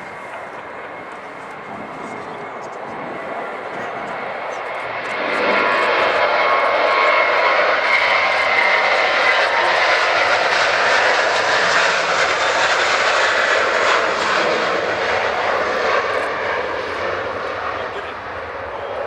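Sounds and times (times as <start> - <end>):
high jet whine: 0.0 - 19.0
jet engines roaring: 0.0 - 19.0.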